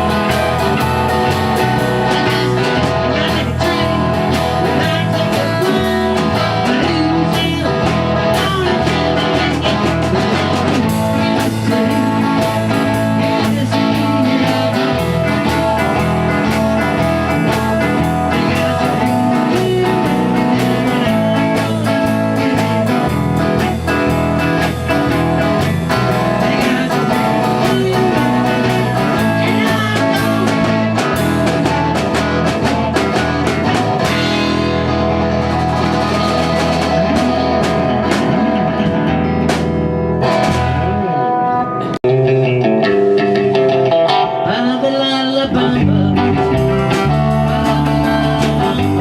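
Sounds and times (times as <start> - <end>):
instrumental blues-rock band: 0.0 - 49.0.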